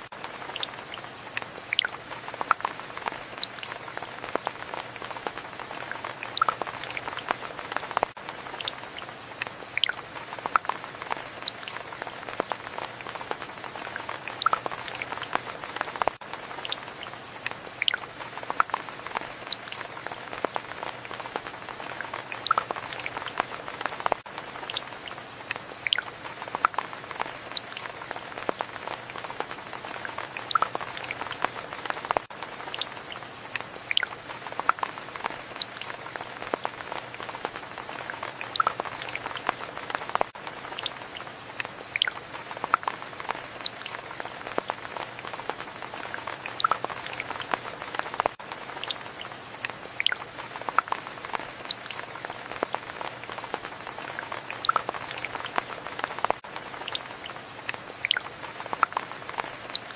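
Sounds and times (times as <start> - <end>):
rain drops pattering and dripping: 0.0 - 59.9.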